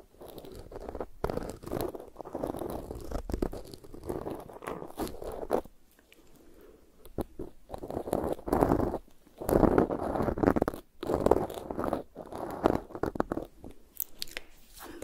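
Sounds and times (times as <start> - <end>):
cotton swab scratching microphone: 0.0 - 5.7, 7.0 - 15.0.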